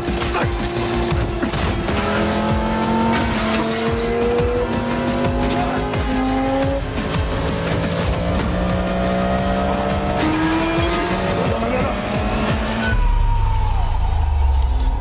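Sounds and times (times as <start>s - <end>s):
dramatic music score: 0.0s - 15.0s
supercar engine revving: 0.6s - 12.9s.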